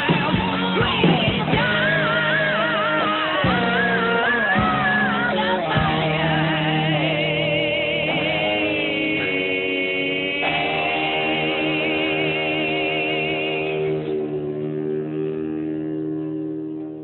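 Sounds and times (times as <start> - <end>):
sustained chords: 0.0 - 17.0
person singing long wavering notes: 1.4 - 17.0.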